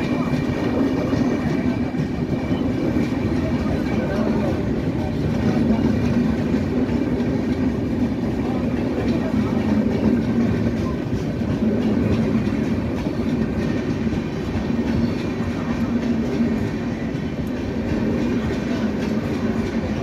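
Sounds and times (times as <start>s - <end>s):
train wheels rumbling on rails: 0.0s - 20.0s
wheels clacking over rail joints: 0.0s - 20.0s.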